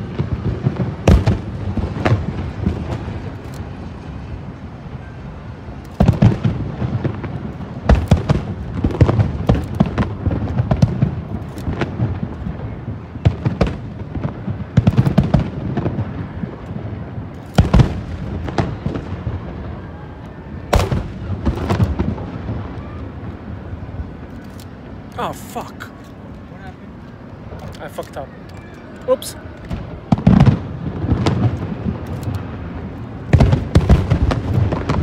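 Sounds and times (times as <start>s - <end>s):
firework booms and crackles: 0.0s - 26.3s, 29.6s - 35.0s.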